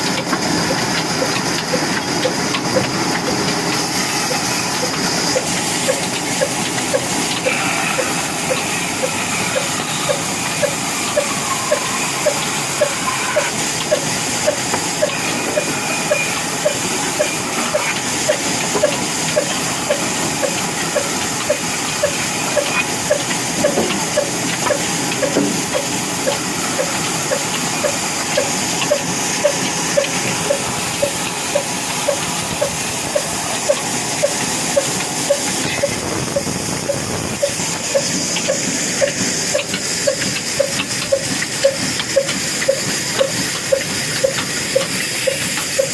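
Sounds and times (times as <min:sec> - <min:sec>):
stationary engine running: 0:00.0 - 0:45.9.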